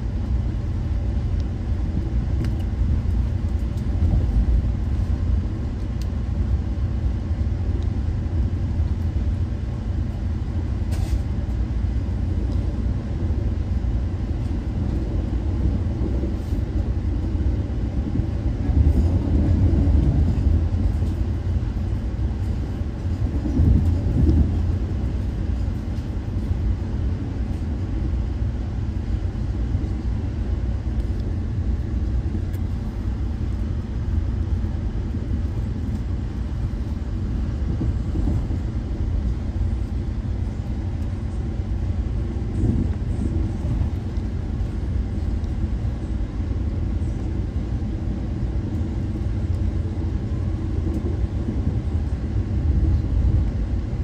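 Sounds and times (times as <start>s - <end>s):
train rumbling in motion: 0.0s - 54.0s.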